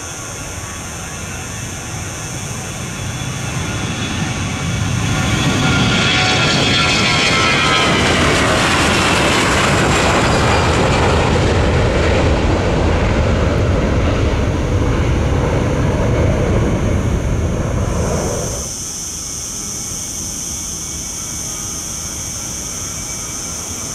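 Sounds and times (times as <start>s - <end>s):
high whining engine tones: 0.0s - 23.9s
jet engines roaring at takeoff: 0.0s - 23.9s.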